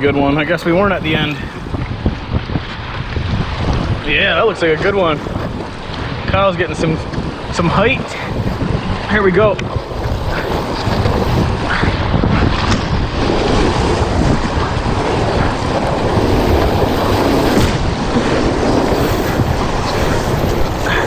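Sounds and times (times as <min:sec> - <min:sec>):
wind rumbling on microphone: 0:00.0 - 0:21.0
whitewater rushing: 0:04.1 - 0:21.0.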